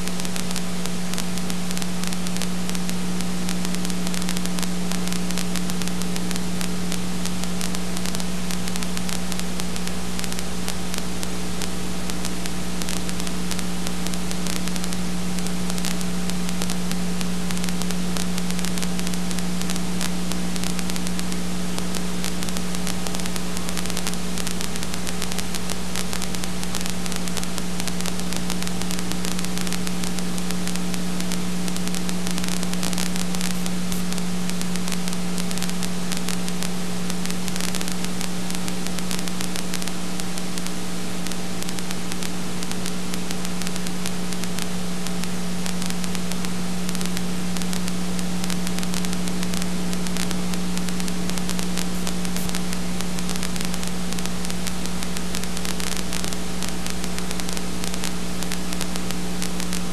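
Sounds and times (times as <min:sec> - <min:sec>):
electrical hum: 0:00.0 - 0:59.9
steady hiss: 0:00.0 - 0:59.9.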